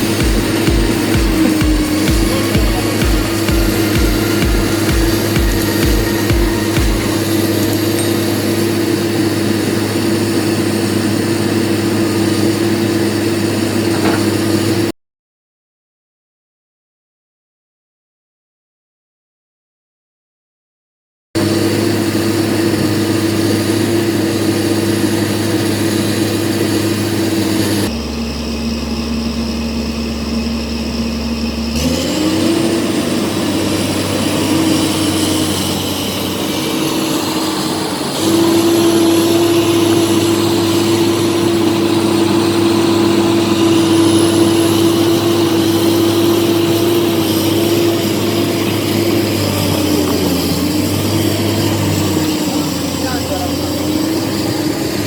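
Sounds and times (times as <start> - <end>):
excavator diesel engine running: 0.0 - 14.9, 21.4 - 55.0.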